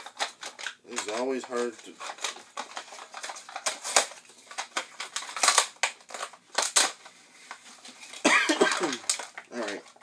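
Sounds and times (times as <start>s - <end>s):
plastic cups crackling: 0.0s - 10.0s.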